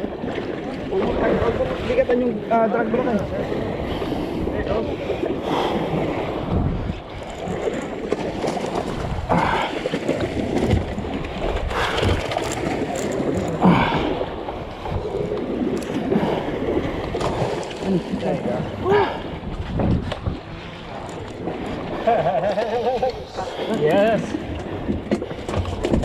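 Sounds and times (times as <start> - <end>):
wind buffeting microphone: 0.0 - 22.2
sea and boat noise: 0.0 - 26.0.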